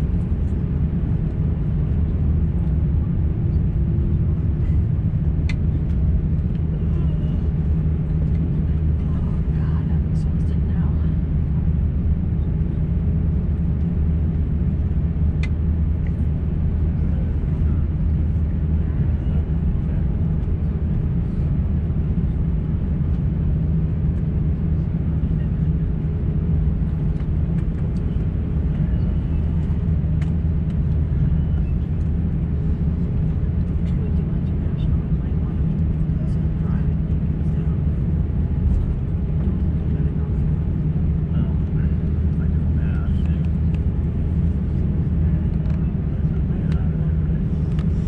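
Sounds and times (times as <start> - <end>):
airliner cabin engine rumble: 0.0 - 48.0
constant low hum: 0.0 - 48.0.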